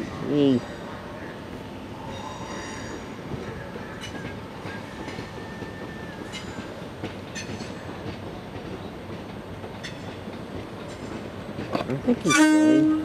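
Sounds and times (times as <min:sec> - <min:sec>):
train rail rumble: 0:00.0 - 0:13.0.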